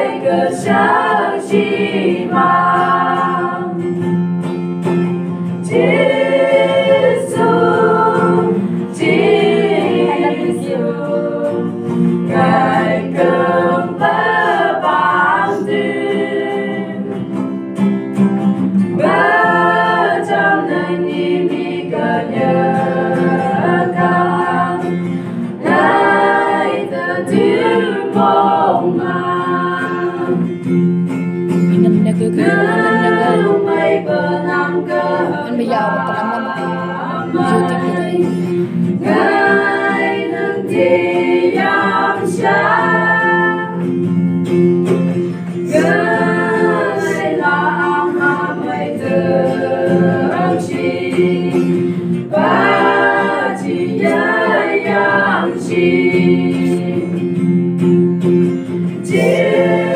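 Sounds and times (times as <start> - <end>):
acoustic guitar: 0.0 - 59.9
group singing gospel song: 0.0 - 59.9.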